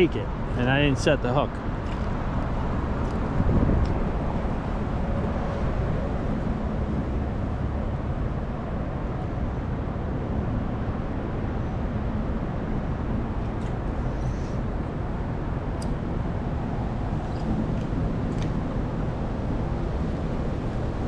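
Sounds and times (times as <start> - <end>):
wind buffeting microphone: 1.5 - 21.0.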